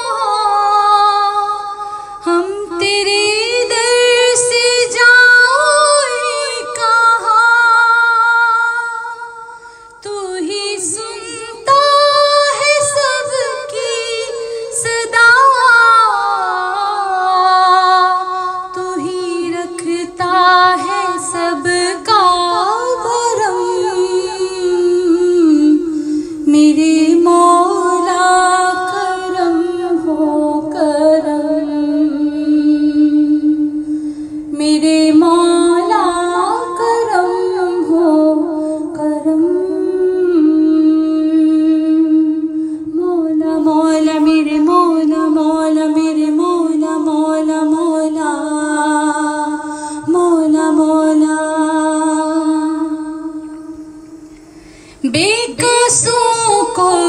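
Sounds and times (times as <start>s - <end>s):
woman singing a slow prayer song: 0.0s - 57.0s.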